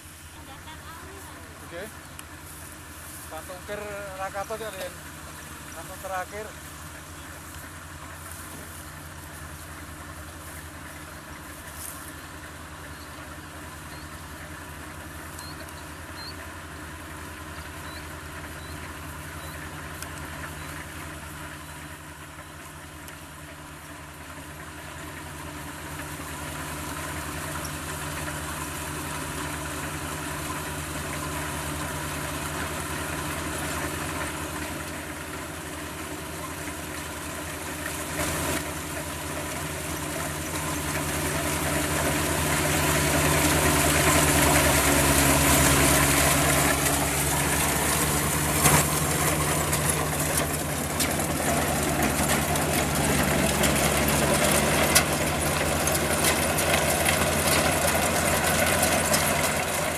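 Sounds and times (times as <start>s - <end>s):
combine harvester diesel engine running: 0.0s - 59.9s.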